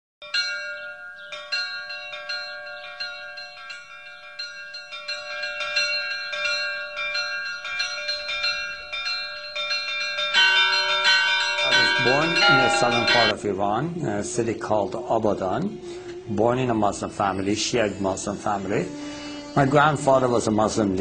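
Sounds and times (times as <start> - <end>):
bells ringing: 0.2 - 21.0.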